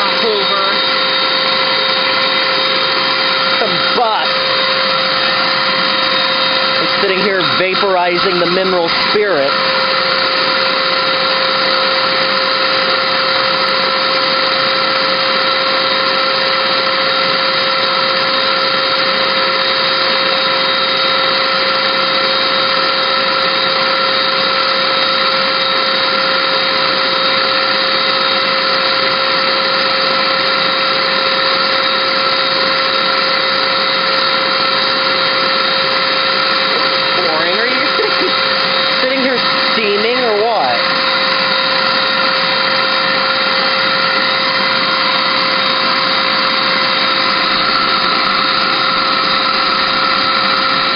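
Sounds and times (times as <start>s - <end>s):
vacuum cleaner motor whine: 0.0s - 50.9s.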